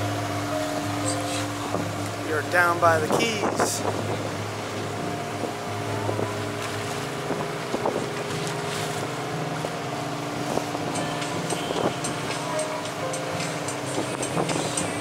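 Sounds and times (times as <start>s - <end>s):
low drone from boat: 0.0s - 15.0s
wind buffeting microphone: 1.0s - 15.0s.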